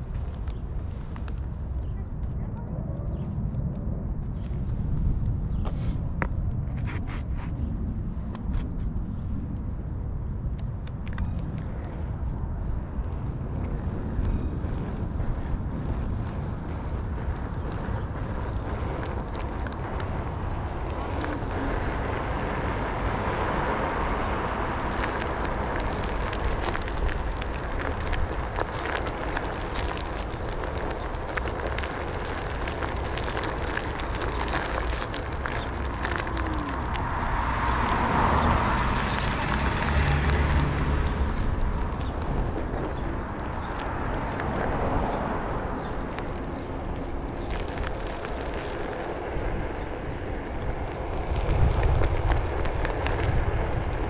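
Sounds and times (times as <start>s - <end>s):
steady low rumble: 0.0s - 54.0s
wind on the microphone: 0.0s - 54.0s.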